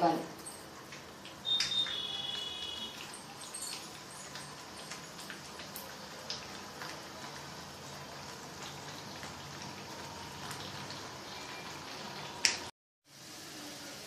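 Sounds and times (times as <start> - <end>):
food bubbling in a pan: 0.6 - 14.0.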